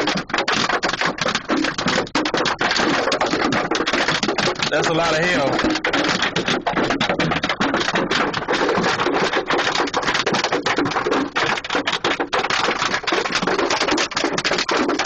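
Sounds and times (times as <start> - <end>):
hail pelting a vehicle: 0.0 - 15.0.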